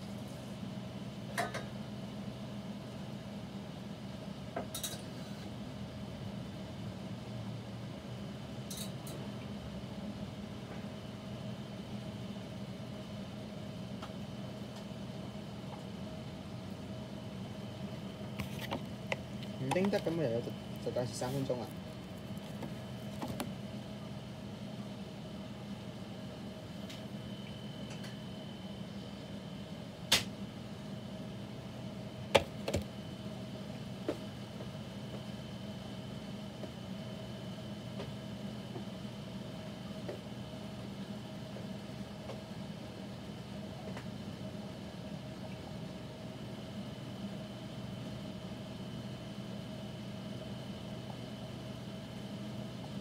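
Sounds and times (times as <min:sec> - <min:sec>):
microwave oven humming: 0:00.0 - 0:53.0.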